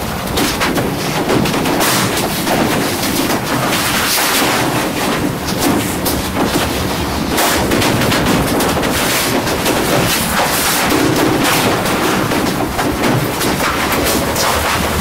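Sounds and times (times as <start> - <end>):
gloved hands rubbing plastic: 0.3 - 15.0.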